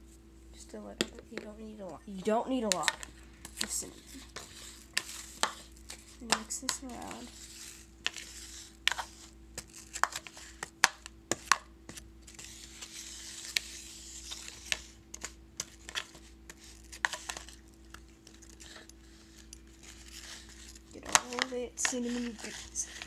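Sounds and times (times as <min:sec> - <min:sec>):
metal spoon stirring in a bowl: 0:02.1 - 0:23.0.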